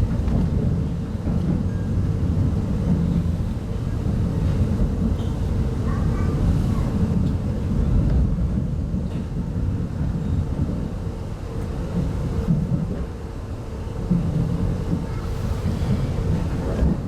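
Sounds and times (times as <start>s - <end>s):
train coach rumbling on track: 0.0s - 17.0s.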